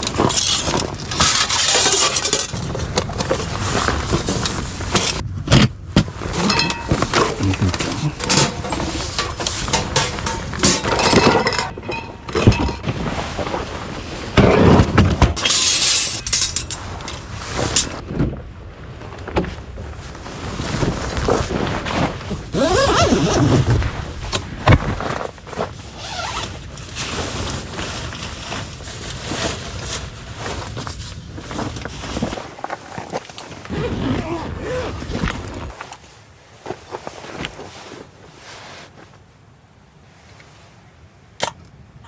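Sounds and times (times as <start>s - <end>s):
camping gear clattering: 0.0s - 38.2s.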